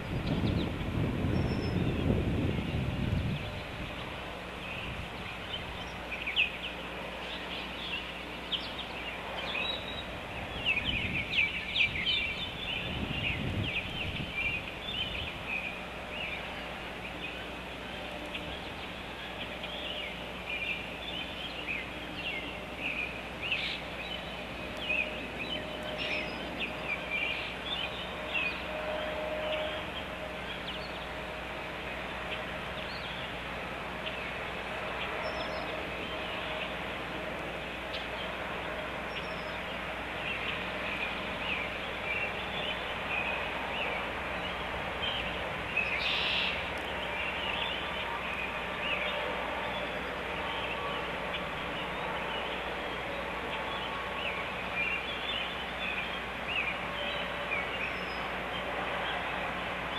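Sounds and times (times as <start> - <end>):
steady outdoor noise: 0.0 - 59.9.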